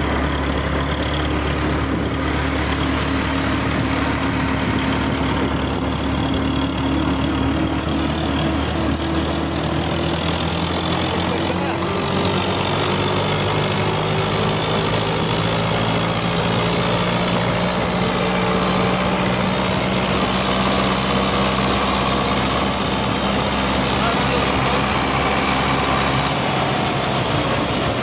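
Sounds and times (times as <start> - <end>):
road and wind noise: 0.0 - 28.0
tractor diesel engine running: 0.0 - 28.0.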